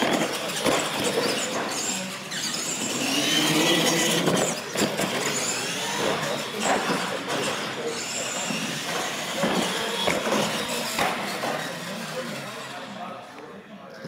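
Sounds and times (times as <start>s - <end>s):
toy truck motors whining: 0.0s - 13.2s.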